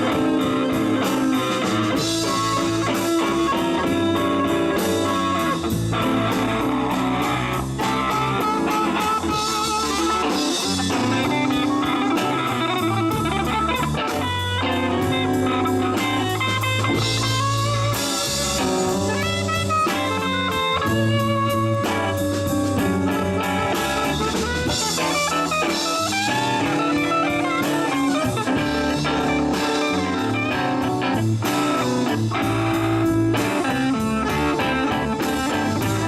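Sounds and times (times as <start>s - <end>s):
bass guitar: 0.0s - 36.0s
drum kit with cymbal beat: 0.0s - 36.0s
electric guitar: 0.0s - 36.0s.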